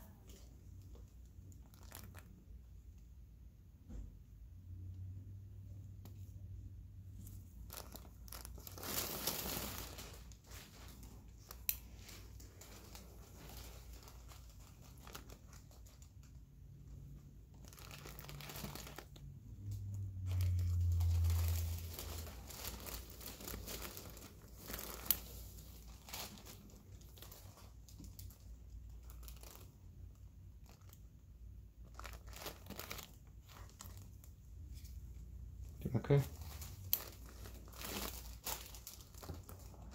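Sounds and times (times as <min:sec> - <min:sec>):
rustling and crinkling gloved hands: 0:00.0 - 0:03.2, 0:05.8 - 0:39.9.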